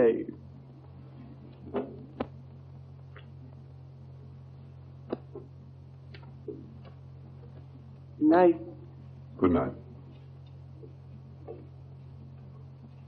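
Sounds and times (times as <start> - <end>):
film soundtrack hum and hiss: 0.0 - 13.0.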